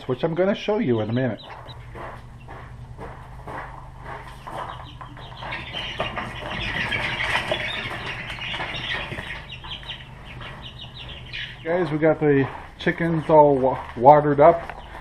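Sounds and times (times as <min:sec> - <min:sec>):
baby chicks peeping: 0:00.0 - 0:15.0
low hum: 0:00.0 - 0:15.0.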